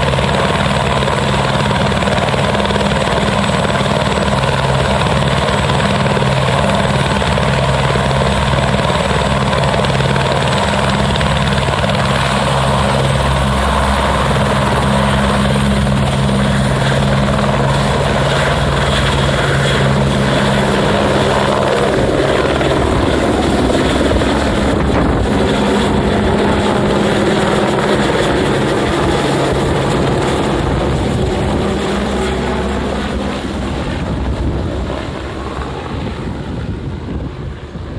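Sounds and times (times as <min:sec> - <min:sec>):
helicopter rotor and turbine whine: 0:00.0 - 0:37.9.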